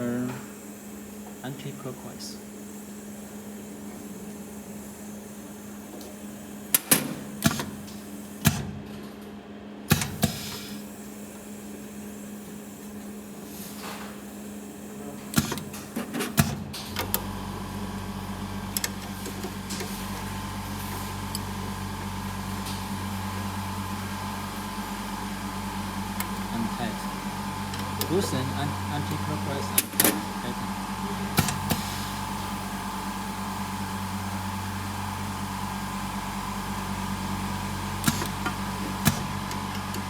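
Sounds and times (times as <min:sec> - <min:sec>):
loud hum with high whine: 0:00.0 - 0:40.0
steady electrical hum: 0:00.0 - 0:40.0.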